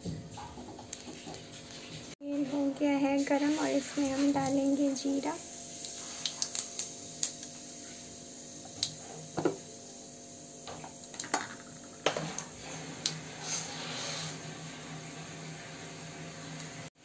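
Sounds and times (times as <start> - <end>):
seeds crackling in hot oil: 2.5 - 17.0.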